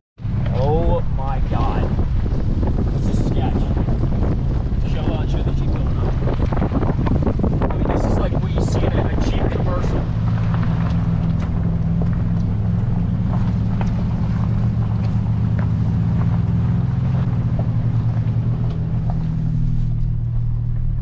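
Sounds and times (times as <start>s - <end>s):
truck engine running: 0.2s - 21.0s.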